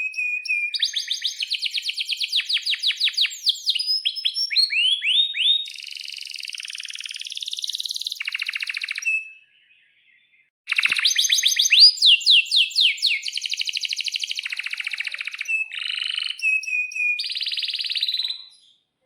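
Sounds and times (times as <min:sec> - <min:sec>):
canary singing: 0:00.0 - 0:18.8.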